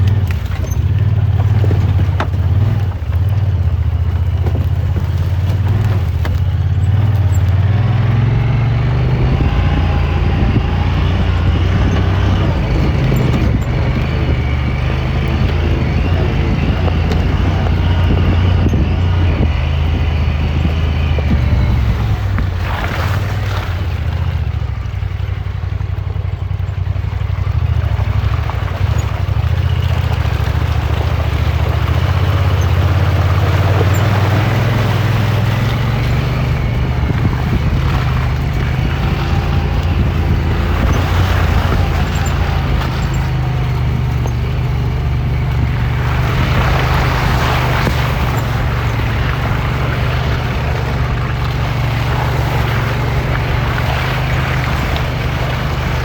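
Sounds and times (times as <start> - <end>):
utility vehicle engine running: 0.0 - 56.0.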